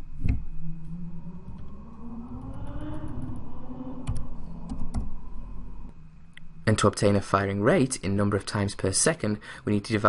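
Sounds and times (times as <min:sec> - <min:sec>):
low rumble: 0:00.0 - 0:08.9.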